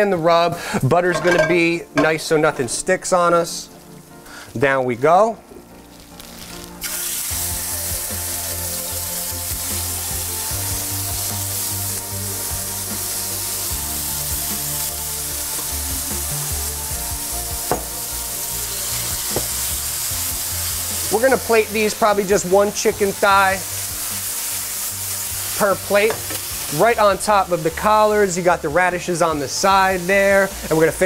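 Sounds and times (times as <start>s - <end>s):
chicken sizzling in a skillet: 5.9s - 31.0s.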